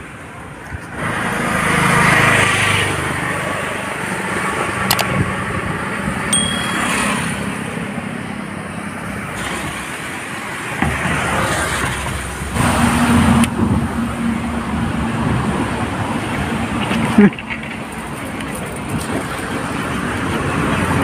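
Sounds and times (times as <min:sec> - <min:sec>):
passing vehicles rushing: 0:00.9 - 0:21.0.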